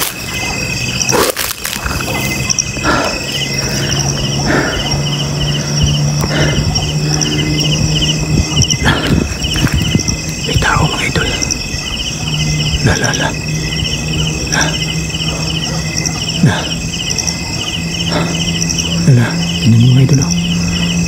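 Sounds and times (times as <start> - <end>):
crickets chirping: 0.0 - 21.0
high-pitched insect drone: 0.0 - 21.0.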